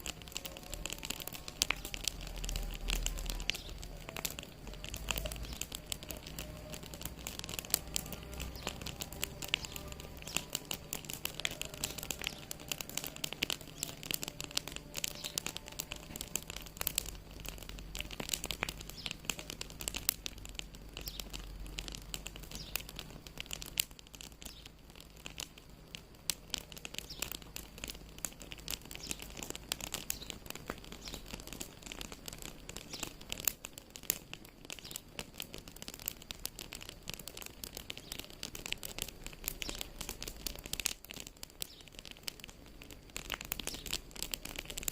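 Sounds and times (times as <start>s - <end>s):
faint low rumble: 0.0s - 44.9s
wood fire crackling and popping: 0.0s - 44.9s.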